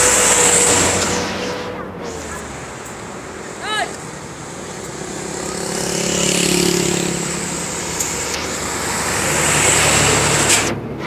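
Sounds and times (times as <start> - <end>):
large vehicles passing on highway: 0.0 - 11.0.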